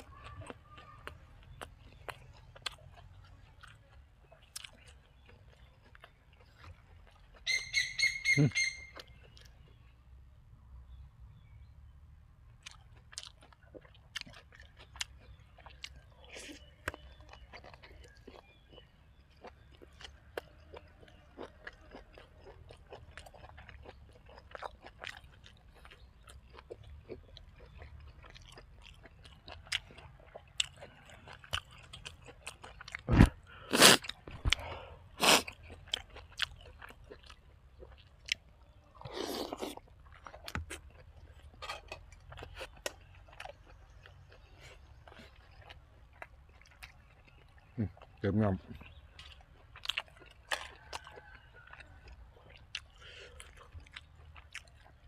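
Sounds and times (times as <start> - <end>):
person chewing food: 0.0 - 9.9, 12.5 - 55.0.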